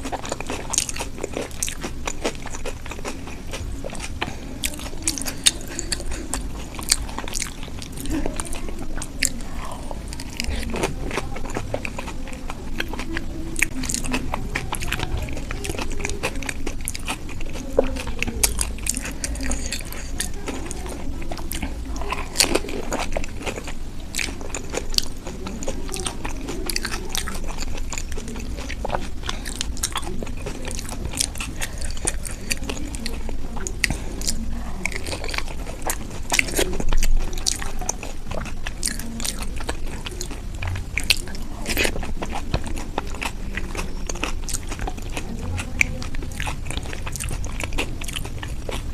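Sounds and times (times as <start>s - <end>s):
crisp shells crunching while chewed: 0.0s - 48.9s
wet mouth sounds: 0.0s - 48.9s.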